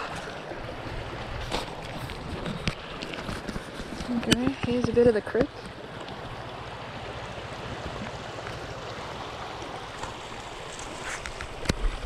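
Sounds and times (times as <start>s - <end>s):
creek running over stones: 0.0s - 12.0s.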